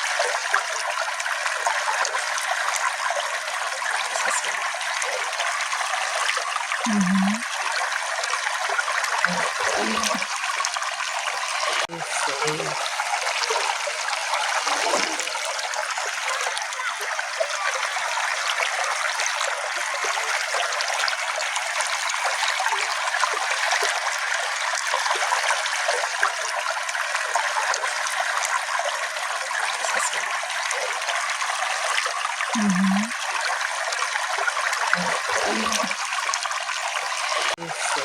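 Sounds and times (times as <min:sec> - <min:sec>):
stream trickling: 0:00.0 - 0:38.0.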